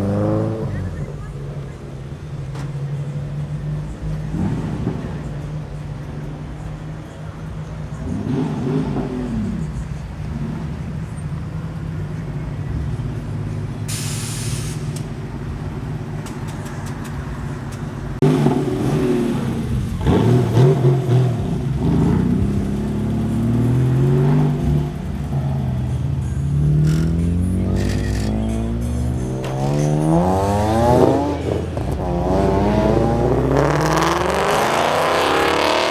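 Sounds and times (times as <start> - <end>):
car accelerating: 0.0 - 35.9
car engines idling and revving: 0.0 - 35.9.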